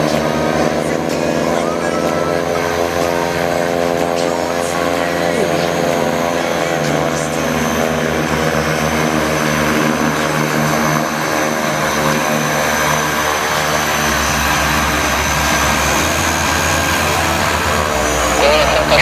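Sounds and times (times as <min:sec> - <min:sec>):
propeller aircraft engines: 0:00.0 - 0:19.0.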